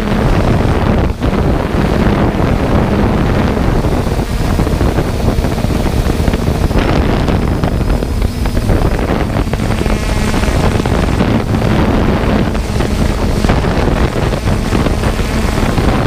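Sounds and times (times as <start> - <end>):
drone motors and propellers: 0.0 - 16.0
wind rushing over microphone: 0.0 - 16.0.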